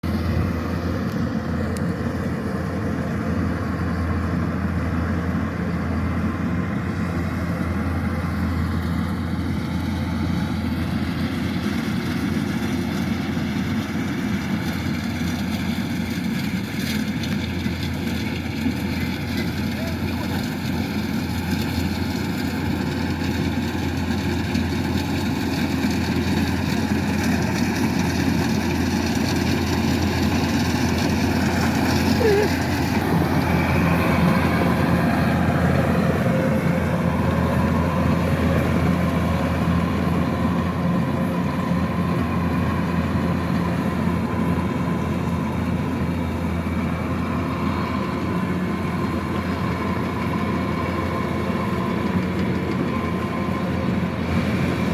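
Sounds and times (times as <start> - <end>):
combine harvester diesel engine: 0.0 - 54.9.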